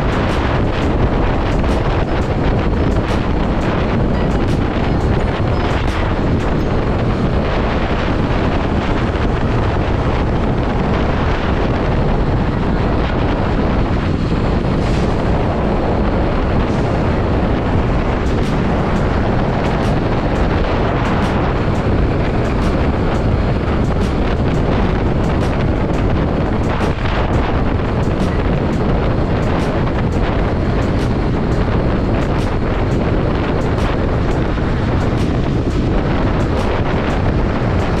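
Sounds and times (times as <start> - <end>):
road noise: 0.0 - 38.0
wind rush on microphone: 0.0 - 38.0.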